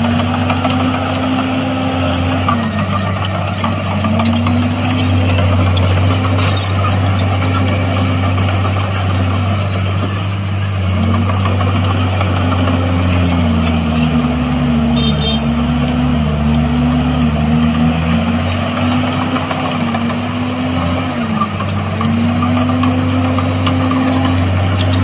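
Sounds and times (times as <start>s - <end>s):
heavy machinery diesel engine: 0.0s - 25.0s.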